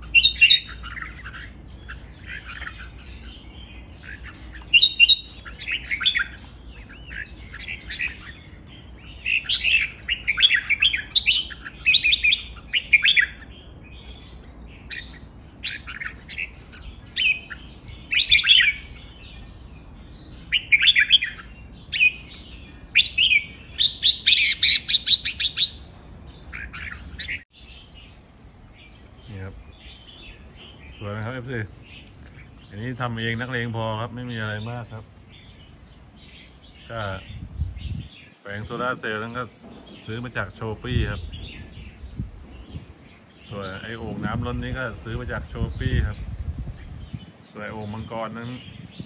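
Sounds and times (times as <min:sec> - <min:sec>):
birds singing chirpy phrases: 0:00.0 - 0:49.0.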